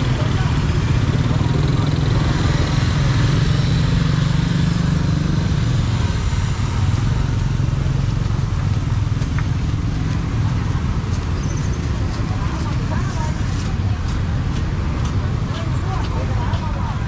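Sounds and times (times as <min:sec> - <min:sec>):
motorbike engine running: 0:00.0 - 0:17.0
street noise: 0:00.0 - 0:17.0.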